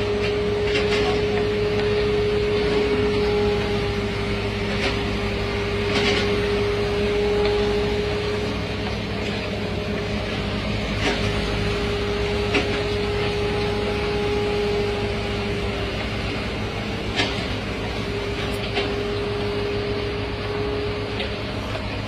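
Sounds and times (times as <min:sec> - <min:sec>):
asphalt paver engine hum: 0:00.0 - 0:22.0.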